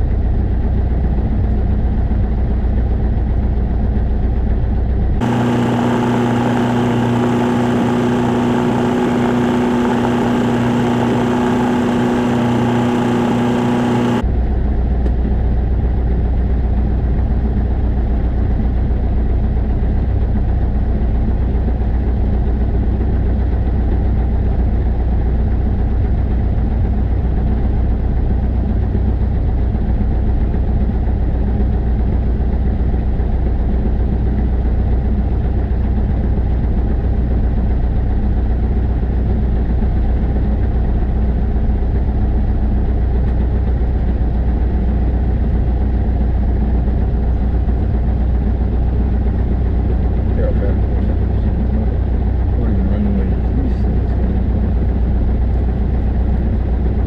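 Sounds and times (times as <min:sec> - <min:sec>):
aircraft piston engine idling: 0:05.2 - 0:14.2, 0:15.6 - 0:57.0.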